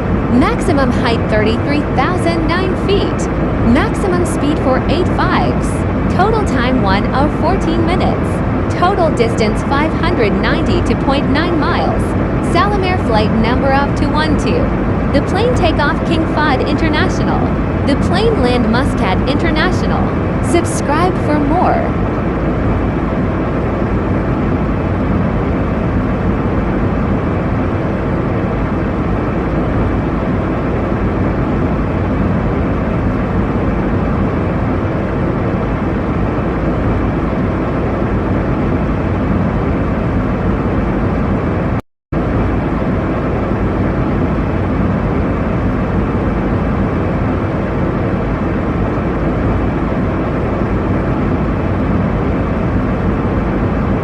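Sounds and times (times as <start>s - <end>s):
jet airliner cabin noise: 0.0s - 54.0s.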